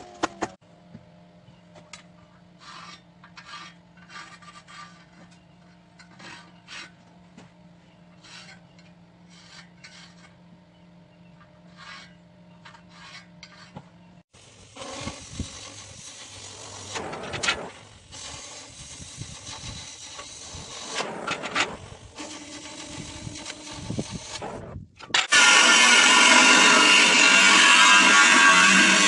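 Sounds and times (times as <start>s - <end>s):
low electrical hum: 0.0s - 25.3s
hand tool scraping: 2.6s - 7.1s, 8.1s - 10.4s, 11.4s - 13.8s, 14.4s - 29.0s.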